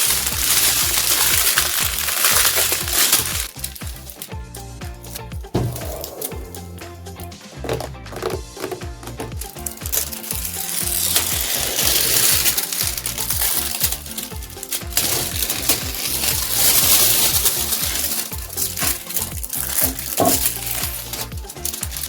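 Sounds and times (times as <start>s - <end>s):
background music: 0.0s - 22.0s
plastic packaging crinkling: 0.0s - 22.0s
plastic pieces rattling: 0.0s - 22.0s.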